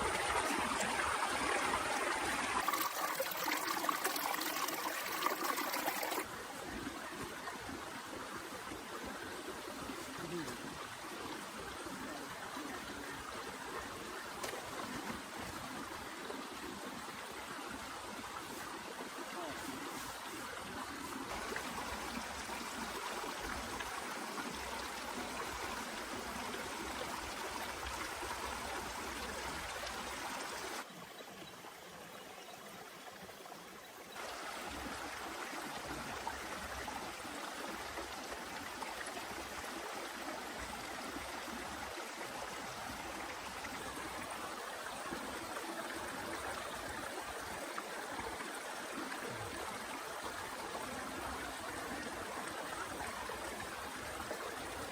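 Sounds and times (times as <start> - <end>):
running water: 0.0 - 54.9.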